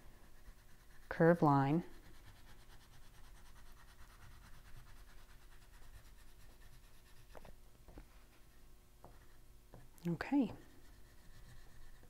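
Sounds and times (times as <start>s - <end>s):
oil pastel scratching on paper: 0.0s - 9.5s, 10.1s - 12.0s.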